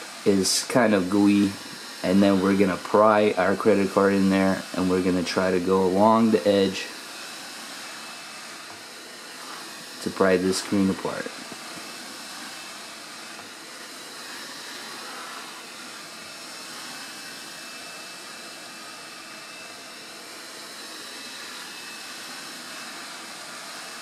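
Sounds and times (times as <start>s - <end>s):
heat gun blowing hot air: 0.0s - 24.0s.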